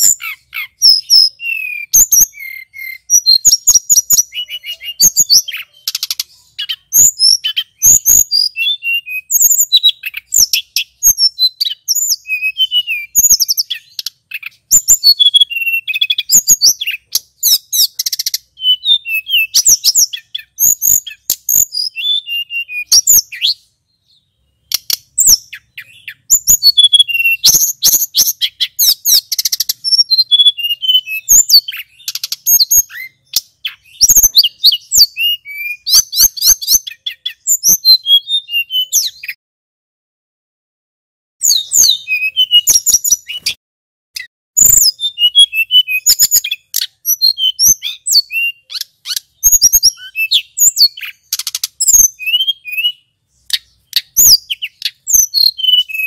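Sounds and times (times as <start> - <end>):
bird singing chirps and trills: 0.0 - 39.4, 41.4 - 43.6, 44.2 - 56.0.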